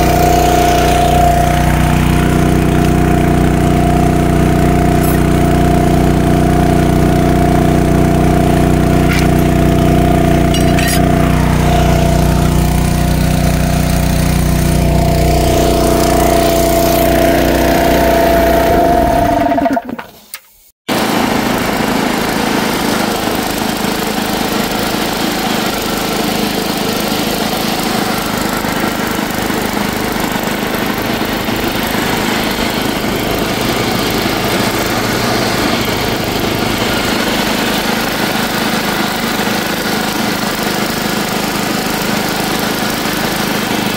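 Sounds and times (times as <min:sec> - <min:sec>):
mower cutting tall grass: 0:00.0 - 0:20.2, 0:20.9 - 0:43.9
garden tractor engine running: 0:00.0 - 0:43.9.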